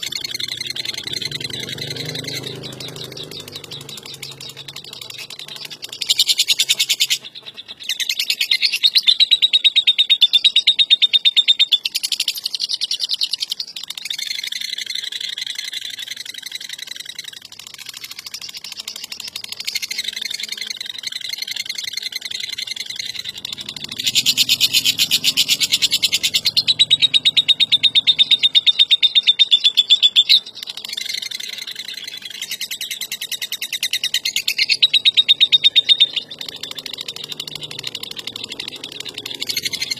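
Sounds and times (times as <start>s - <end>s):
bird rattling trills: 0.0s - 9.4s, 11.7s - 39.9s.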